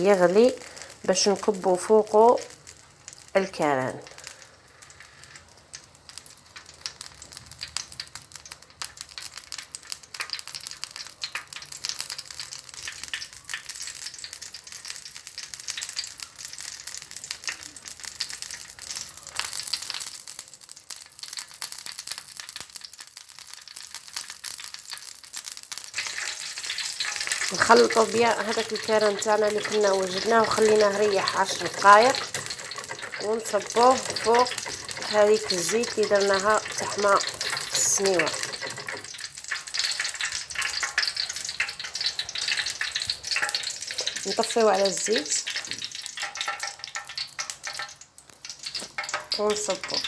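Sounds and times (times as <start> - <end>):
oil crackling and sizzling: 0.0 - 50.0.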